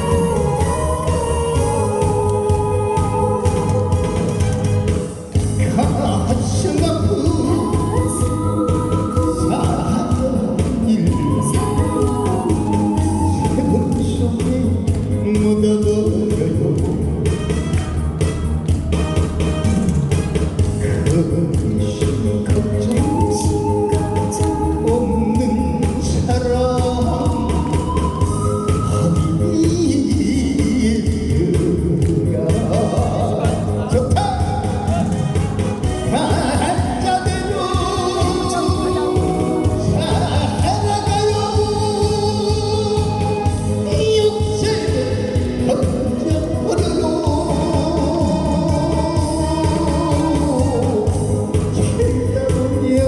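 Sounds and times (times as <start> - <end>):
instrumental accompaniment with beat: 0.0 - 53.0
man singing into a microphone: 5.5 - 17.4, 20.8 - 35.2, 36.0 - 53.0.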